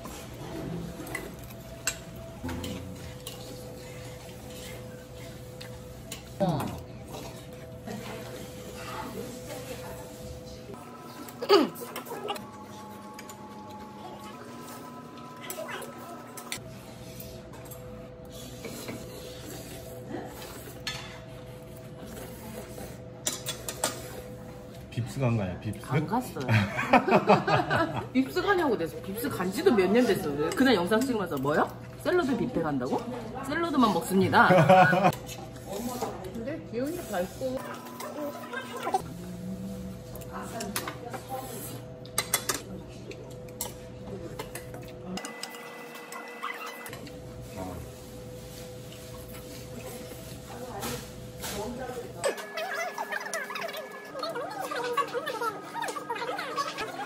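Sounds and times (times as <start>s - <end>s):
utensils clinking against dishes: 0.0s - 57.0s.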